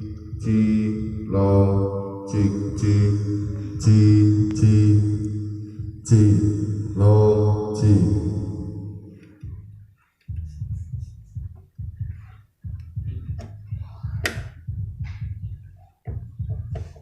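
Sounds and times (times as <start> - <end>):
rapid thumping through loudspeaker: 0.0 - 17.0.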